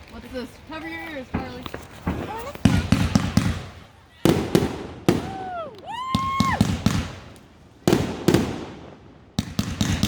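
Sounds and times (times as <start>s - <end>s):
firework cracks: 1.2s - 10.0s
loud firework bangs: 1.3s - 10.0s.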